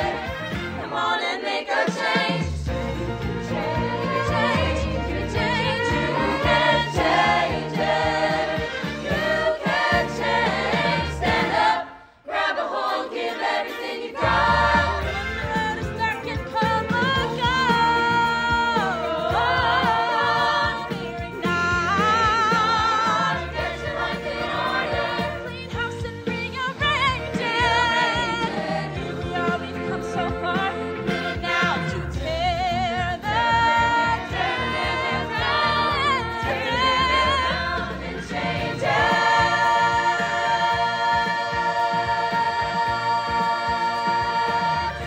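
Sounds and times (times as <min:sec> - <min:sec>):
backing music: 0:00.0 - 0:45.0
group of voices singing: 0:00.0 - 0:45.0.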